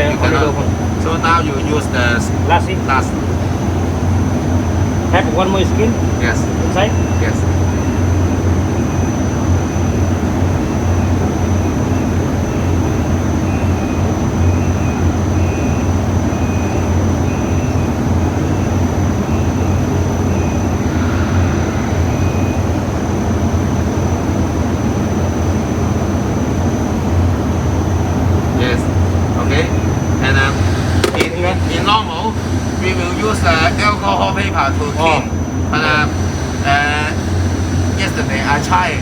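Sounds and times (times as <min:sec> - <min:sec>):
deep machine drone: 0:00.0 - 0:39.0
faint high whine: 0:00.0 - 0:39.0.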